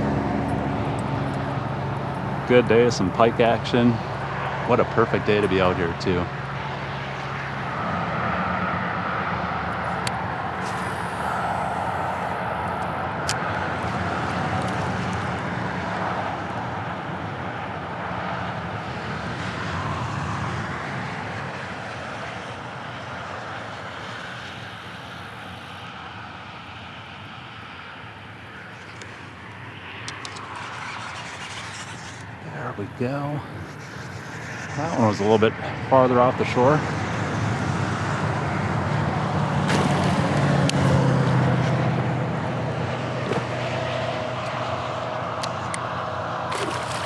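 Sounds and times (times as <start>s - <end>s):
highway traffic rushing: 0.0s - 47.0s.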